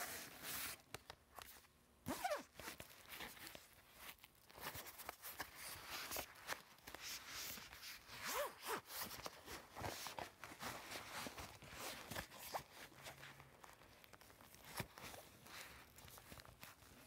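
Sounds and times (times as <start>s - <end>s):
zipper and fabric rustling: 2.0s - 17.0s.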